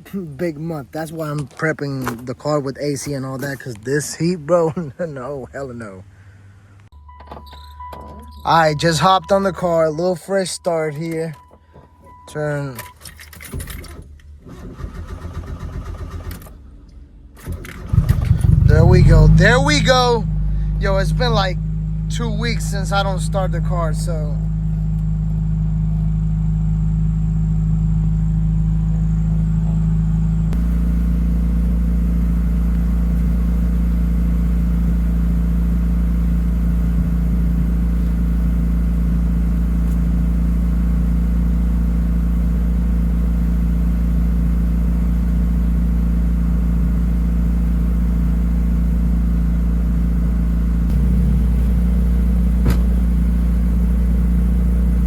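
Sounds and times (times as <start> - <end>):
car engine idling: 7.8 - 12.8, 13.9 - 55.0.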